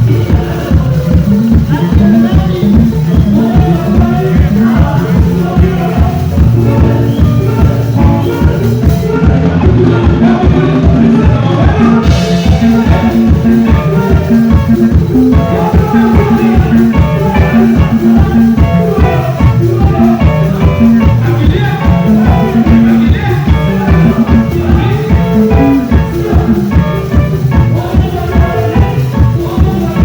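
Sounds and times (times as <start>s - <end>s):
loud band music with bass line: 0.0s - 30.0s.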